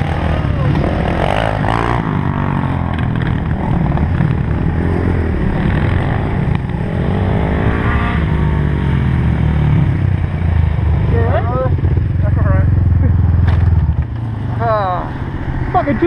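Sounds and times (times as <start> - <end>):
quad bike engine revving: 0.0 - 16.0.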